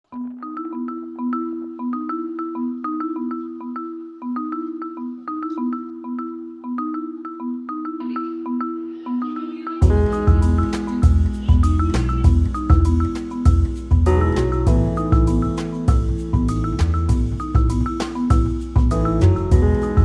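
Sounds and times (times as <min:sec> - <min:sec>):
mallet percussion melody: 0:00.1 - 0:20.0.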